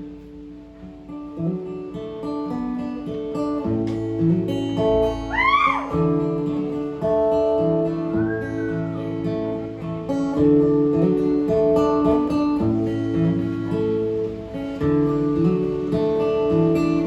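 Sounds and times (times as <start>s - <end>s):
acoustic guitar strumming: 0.0s - 17.0s
country band instruments: 2.8s - 17.0s.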